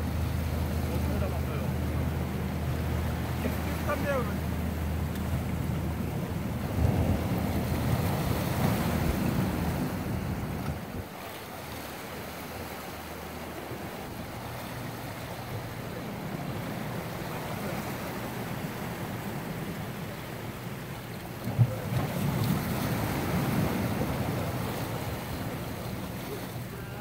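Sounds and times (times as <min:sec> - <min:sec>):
waves breaking on rocks: 0:00.0 - 0:27.0
wind rumble on microphone: 0:00.0 - 0:27.0.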